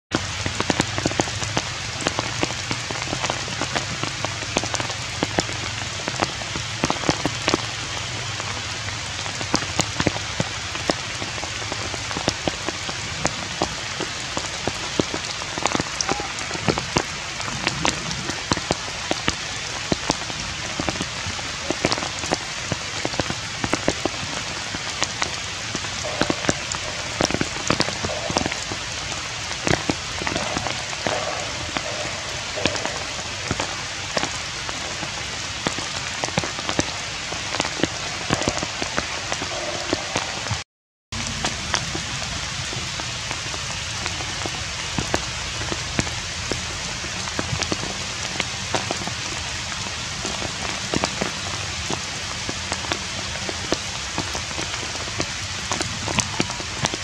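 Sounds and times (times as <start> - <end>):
rain falling: 0.1 - 57.0.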